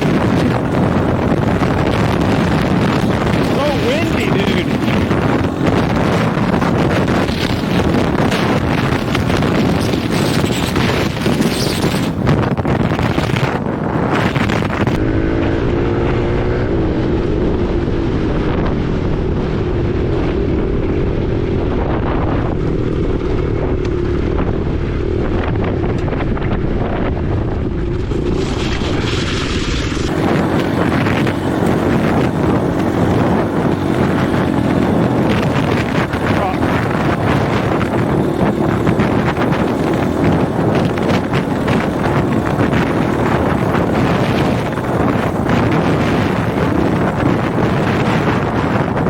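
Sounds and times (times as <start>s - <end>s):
dirt bike engine running: 0.0s - 49.0s
wind buffeting on microphone: 0.0s - 49.0s.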